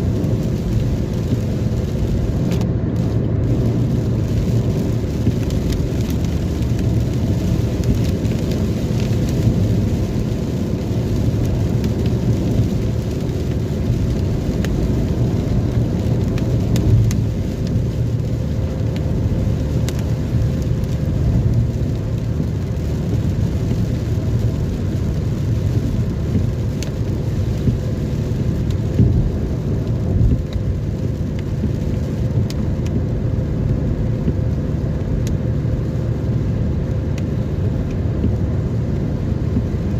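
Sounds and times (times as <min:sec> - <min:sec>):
low rumble: 0:00.0 - 0:39.9
rain: 0:00.0 - 0:39.9
raindrops ticking: 0:00.1 - 0:39.9.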